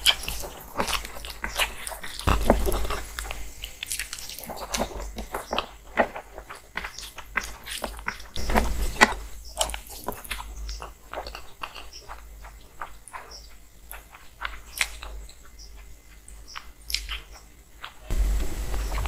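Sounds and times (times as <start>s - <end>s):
chewing: 0.0s - 18.1s
fingers squishing rice: 0.0s - 18.1s.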